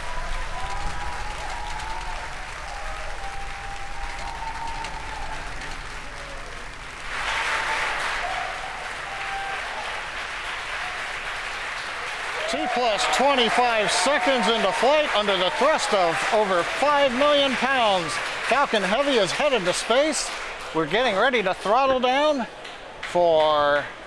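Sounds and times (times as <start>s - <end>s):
crowd cheering and whooping: 0.0s - 20.1s
crowd clapping: 0.0s - 24.0s.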